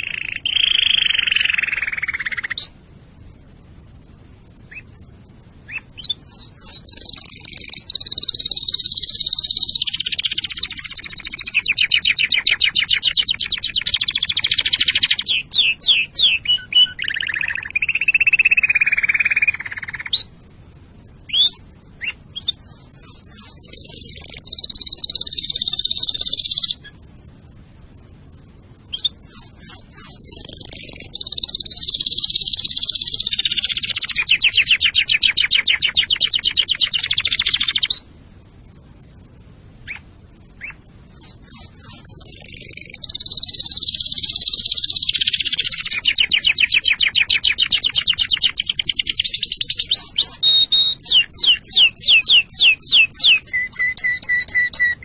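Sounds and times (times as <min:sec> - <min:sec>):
canary singing trills: 0:00.0 - 0:02.8, 0:03.4 - 0:20.4, 0:21.1 - 0:27.4, 0:28.2 - 0:38.7, 0:39.8 - 0:55.0.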